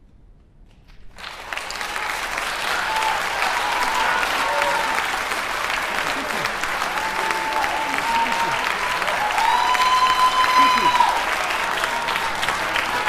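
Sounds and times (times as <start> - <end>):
audience applause: 1.1 - 13.0.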